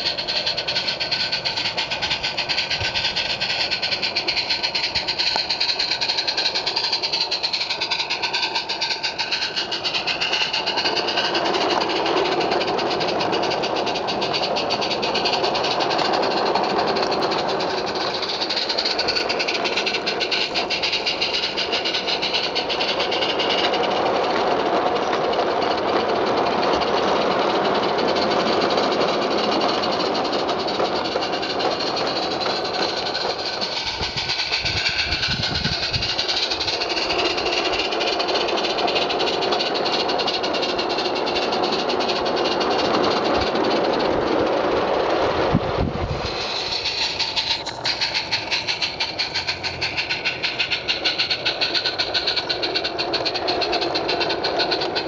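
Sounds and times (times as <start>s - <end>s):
steam hissing: 0.0s - 55.0s
steam locomotive exhaust beats: 0.0s - 55.0s
wheels clattering over track: 0.0s - 55.0s.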